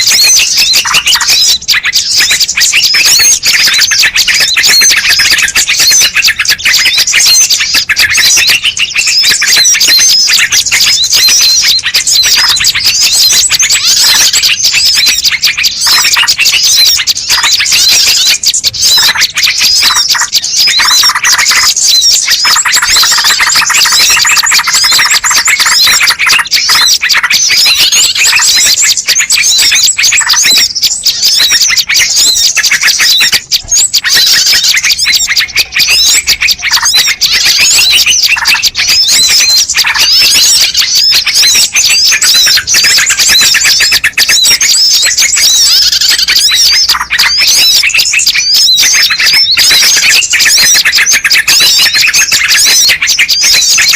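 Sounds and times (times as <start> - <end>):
small birds chirping and twittering: 0.0 - 53.9.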